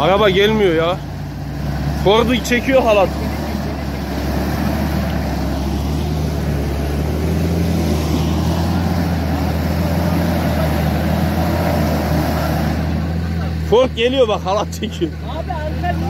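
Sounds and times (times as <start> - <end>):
engine running under load: 0.0 - 16.0.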